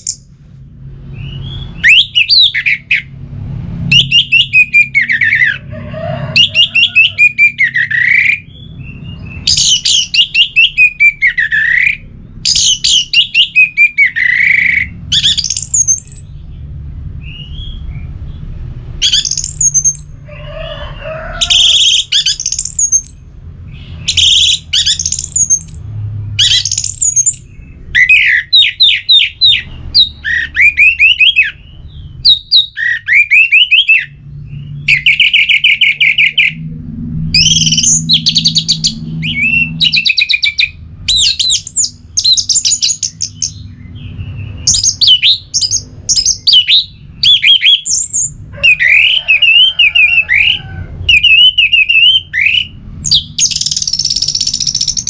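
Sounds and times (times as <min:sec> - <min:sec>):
bird singing: 0:00.0 - 0:00.3, 0:01.0 - 0:03.2, 0:03.8 - 0:55.0.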